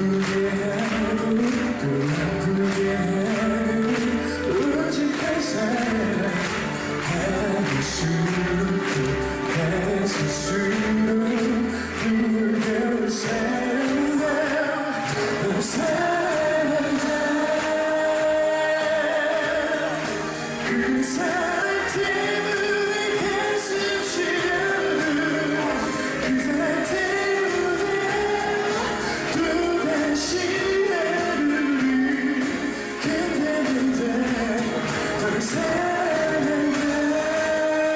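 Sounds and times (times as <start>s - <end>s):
band accompaniment: 0.0s - 37.9s
man singing into a microphone: 0.0s - 37.9s.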